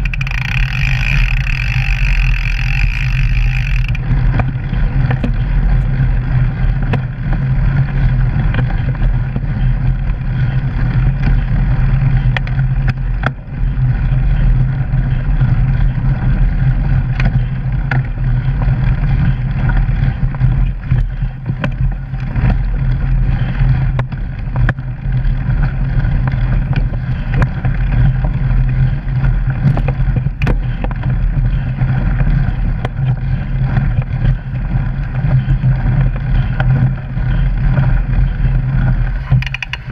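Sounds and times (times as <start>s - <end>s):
bike tyres rumbling on gravel: 0.0s - 39.9s.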